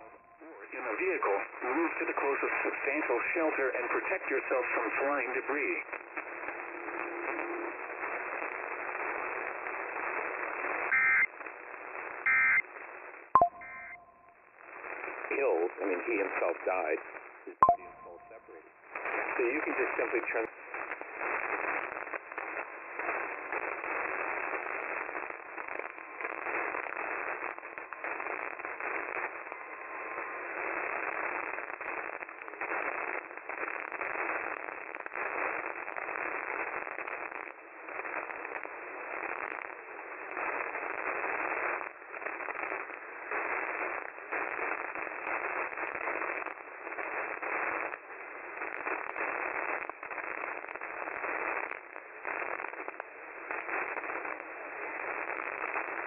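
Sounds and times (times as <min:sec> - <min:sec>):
radio static hiss and crackling: 0:00.0 - 0:56.0.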